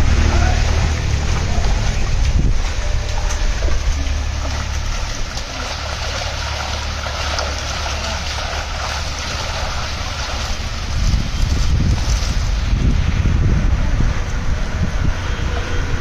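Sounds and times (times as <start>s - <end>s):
low engine rumble: 0.0s - 16.0s
wind and water hiss: 0.0s - 16.0s.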